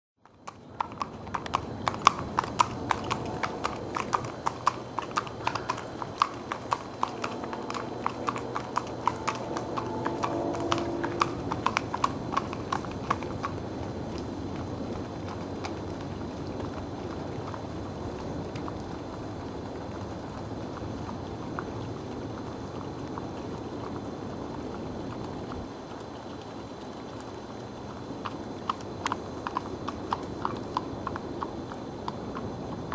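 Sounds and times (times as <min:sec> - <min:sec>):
hooves clip-clopping on pavement: 0:00.2 - 0:32.9.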